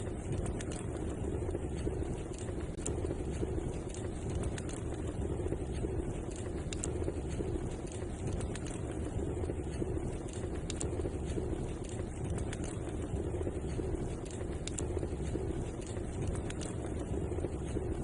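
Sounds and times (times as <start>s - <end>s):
fire crackling and popping: 0.0s - 18.0s
fire flame rumble: 0.0s - 18.0s.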